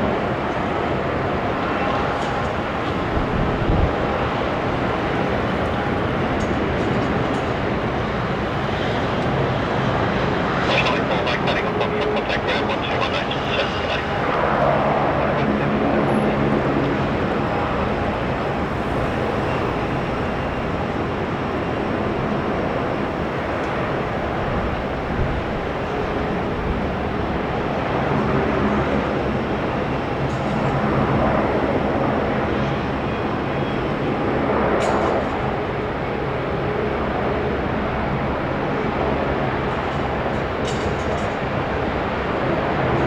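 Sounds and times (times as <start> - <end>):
jet engine noise: 0.0 - 43.0.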